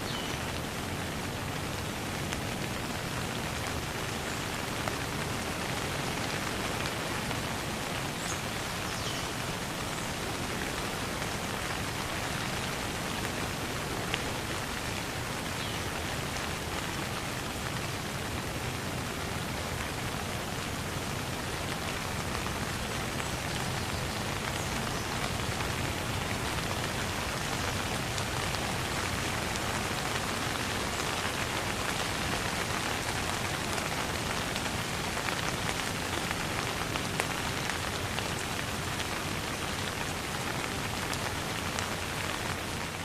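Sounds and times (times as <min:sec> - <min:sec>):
light rain pattering: 0:00.0 - 0:43.0.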